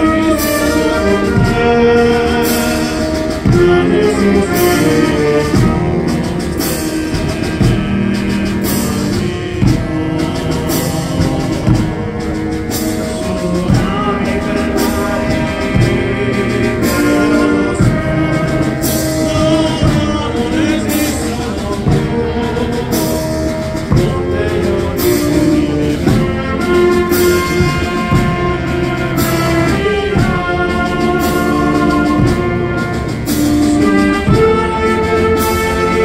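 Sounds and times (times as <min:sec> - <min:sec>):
bass drum beat: 0:00.0 - 0:36.0
brass band playing: 0:00.0 - 0:36.0.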